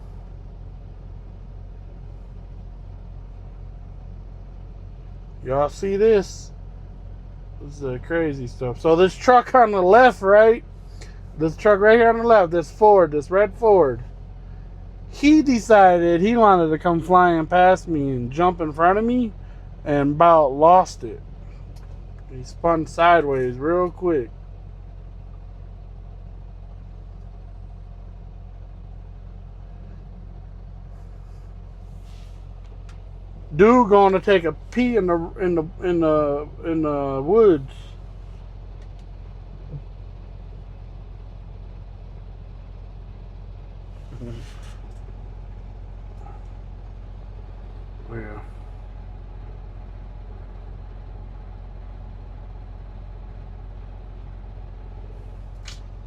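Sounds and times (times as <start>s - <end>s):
truck engine humming: 0.0s - 56.0s.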